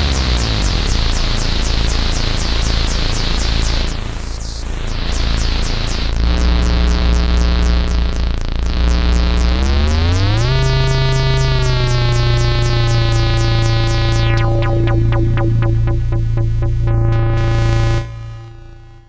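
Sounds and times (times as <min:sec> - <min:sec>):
synthesizer low gliding note: 0:00.0 - 0:19.0
synthesizer noisy wash: 0:00.0 - 0:19.0
synthesizer rapid pulse: 0:00.0 - 0:19.0.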